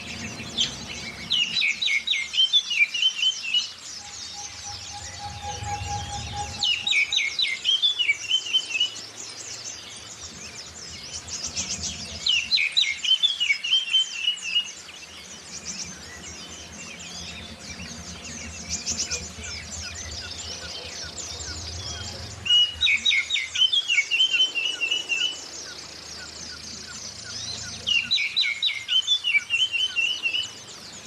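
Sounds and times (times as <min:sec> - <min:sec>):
high-pitched bird twittering: 0:00.0 - 0:09.7, 0:10.3 - 0:30.8
magpie-robin whistling song: 0:00.0 - 0:31.0.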